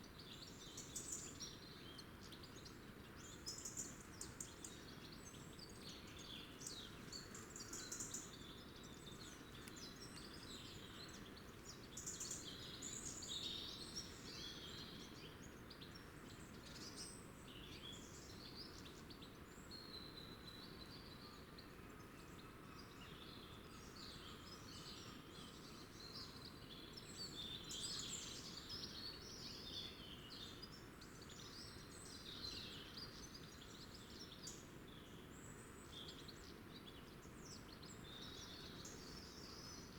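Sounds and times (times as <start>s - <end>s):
low background hiss: 0.0s - 39.9s
small birds chirping: 0.0s - 39.9s.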